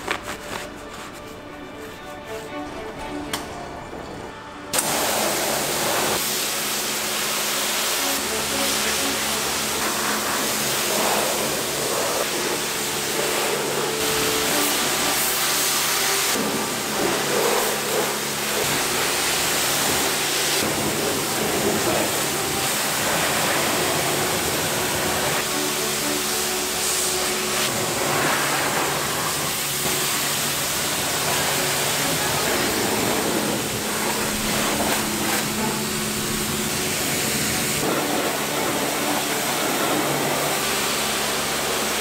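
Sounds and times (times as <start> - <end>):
pressure washer spraying: 4.7 - 42.0.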